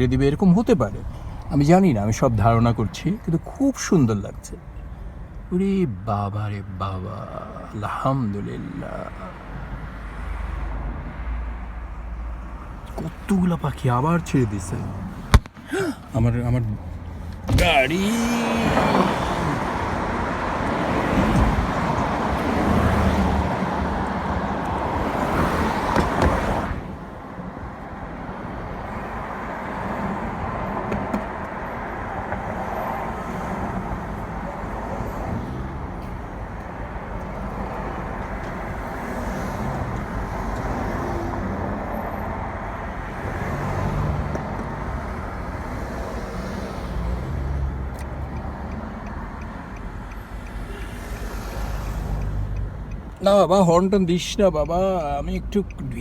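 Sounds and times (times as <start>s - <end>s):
road traffic rush: 0.0s - 56.0s.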